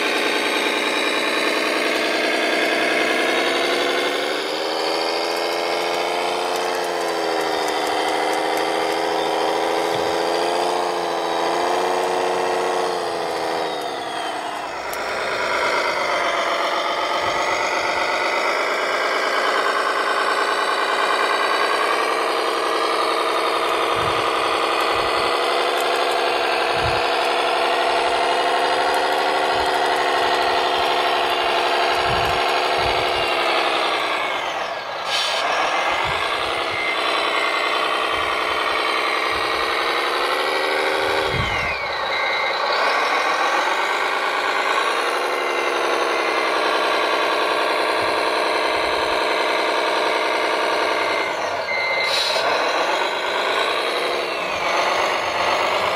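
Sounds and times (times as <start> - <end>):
model motor whining hum: 0.0 - 55.9.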